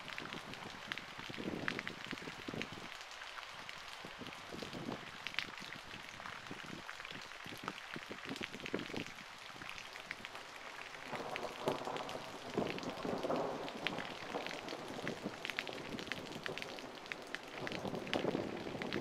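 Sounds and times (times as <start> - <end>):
rain: 0.0 - 19.0
raindrops clicking on microphone: 0.0 - 19.0.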